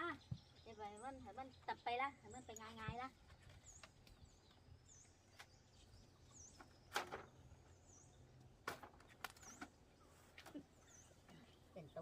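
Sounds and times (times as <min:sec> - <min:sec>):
small bird chirping: 0:00.0 - 0:08.5, 0:09.1 - 0:12.0.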